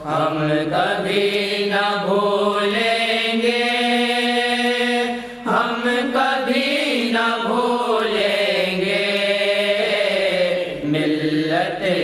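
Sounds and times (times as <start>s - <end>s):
person singing devotional song: 0.0s - 12.0s.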